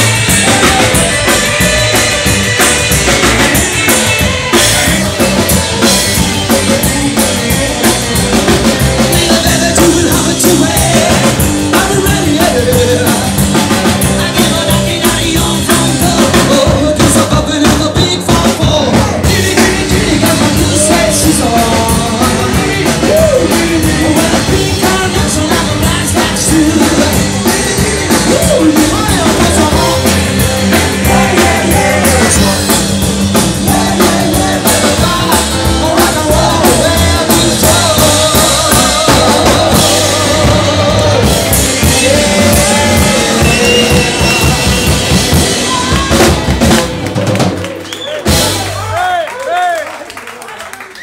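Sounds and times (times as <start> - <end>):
person singing: 0.0 - 46.9
rock band playing live: 0.0 - 50.0.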